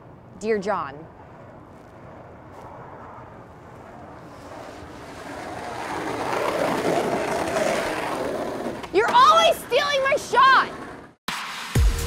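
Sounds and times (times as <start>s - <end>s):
skateboard wheels rolling on asphalt: 0.0s - 11.2s.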